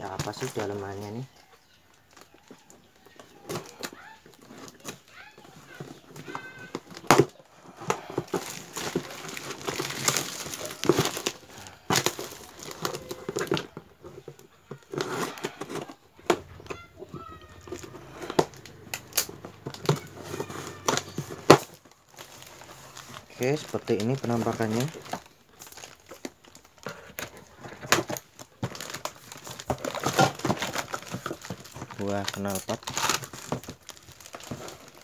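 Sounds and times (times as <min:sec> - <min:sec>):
wrapping crinkling and tearing: 0:00.1 - 0:35.0.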